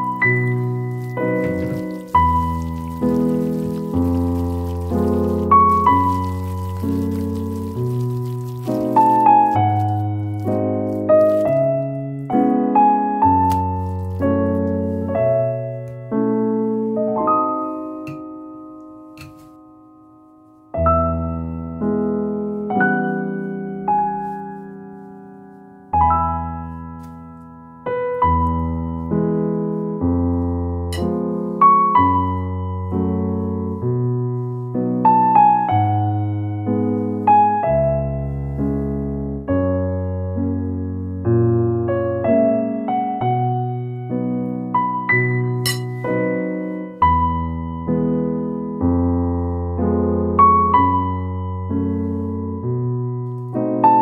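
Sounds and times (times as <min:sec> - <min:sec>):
piano notes and chords: 0:00.0 - 0:54.0.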